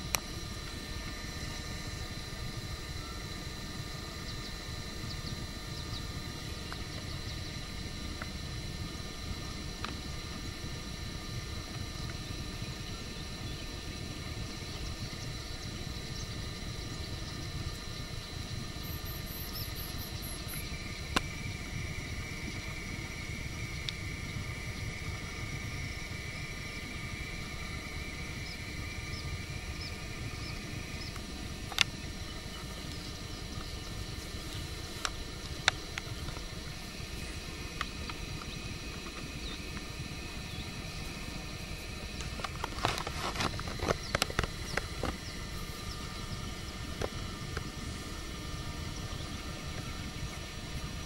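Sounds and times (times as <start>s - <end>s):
faint high whine: 0.0s - 51.0s.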